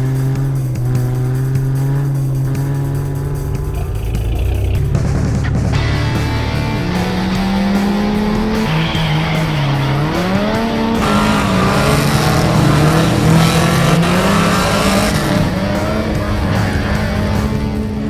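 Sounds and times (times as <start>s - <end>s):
loud car exhaust: 0.0s - 18.0s.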